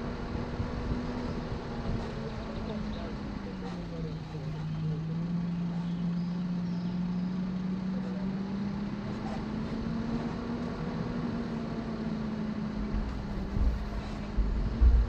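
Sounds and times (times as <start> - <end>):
car engine drone rising: 0.0 - 15.0.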